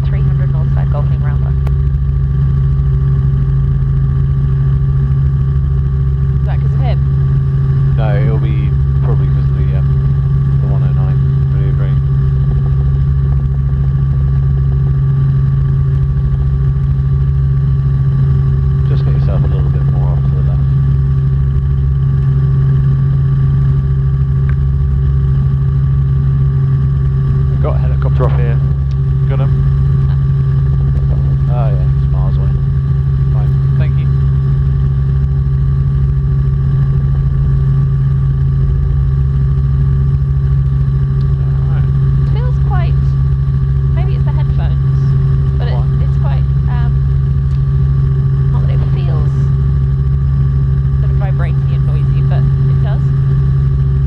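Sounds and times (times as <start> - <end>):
helicopter engine and rotors droning: 0.0 - 54.0.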